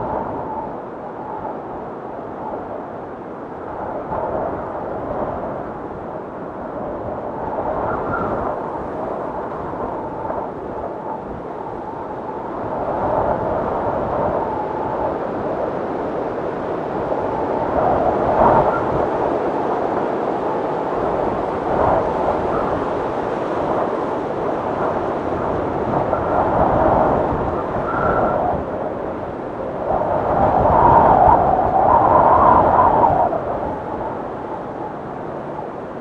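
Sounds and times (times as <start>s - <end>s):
blizzard wind gusts: 0.0s - 36.0s.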